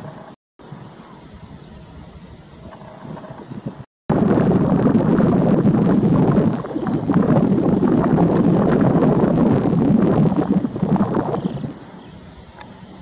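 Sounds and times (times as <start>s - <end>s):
wind buffeting the microphone: 0.7s - 13.0s.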